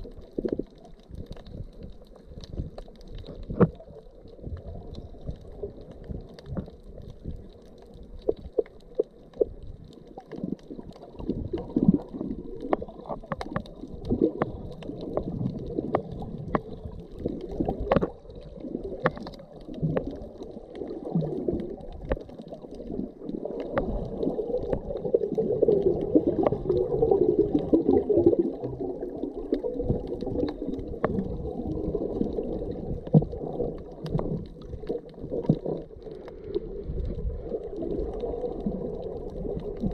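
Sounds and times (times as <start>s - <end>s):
underwater clicks and pops: 0.0s - 36.4s
muffled underwater water wash: 0.0s - 39.9s.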